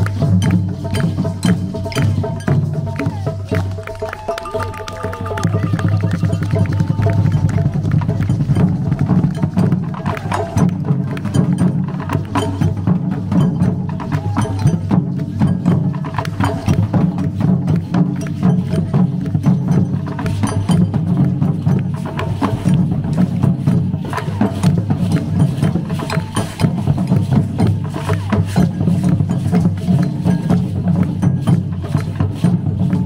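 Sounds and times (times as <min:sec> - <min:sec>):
many drums playing fast rhythm: 0:00.0 - 0:33.0.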